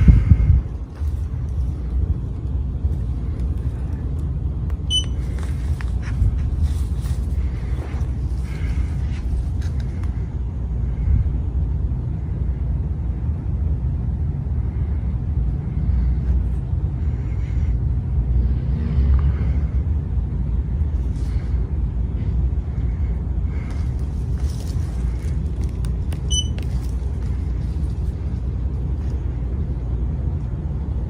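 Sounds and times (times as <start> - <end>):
vehicle running rumble: 0.0 - 31.0.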